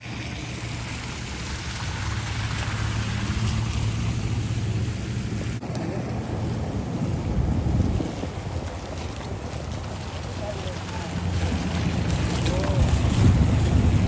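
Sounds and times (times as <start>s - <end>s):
deep rumble: 0.0s - 14.0s
rushing water: 0.0s - 14.0s.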